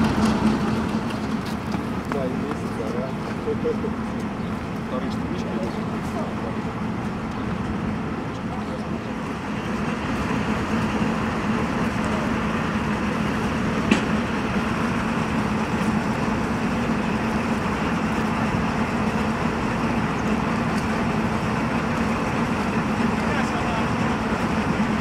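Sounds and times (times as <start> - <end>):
vehicle engines idling: 0.0 - 25.0.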